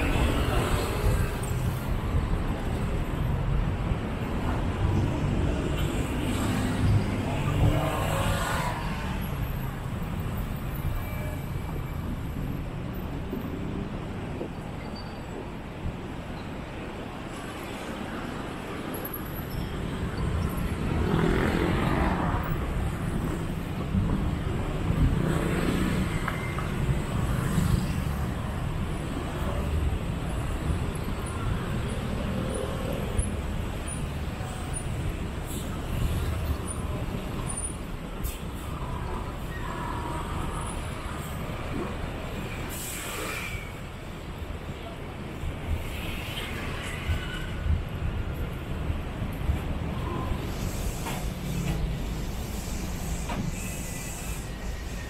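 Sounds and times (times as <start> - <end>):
city traffic rumble: 0.0 - 55.0.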